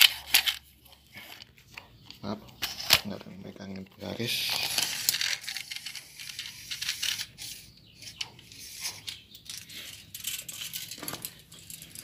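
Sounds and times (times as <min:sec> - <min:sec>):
handling clicks and rustles: 0:00.0 - 0:12.0.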